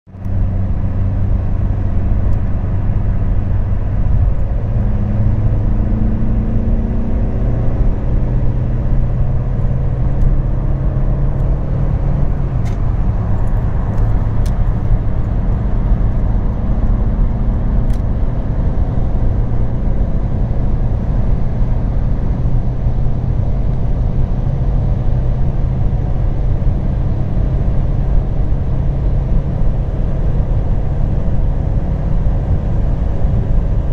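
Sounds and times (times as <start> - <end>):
car engine at high speed: 0.1 - 33.9.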